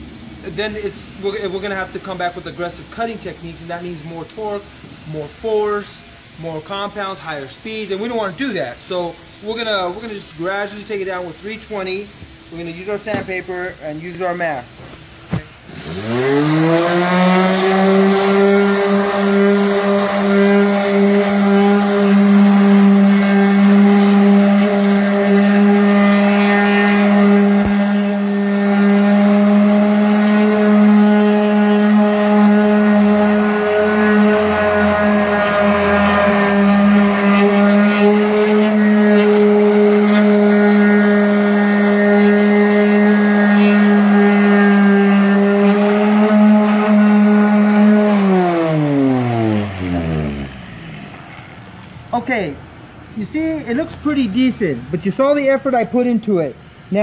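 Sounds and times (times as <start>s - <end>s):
orbital sander whining: 0.0s - 51.7s.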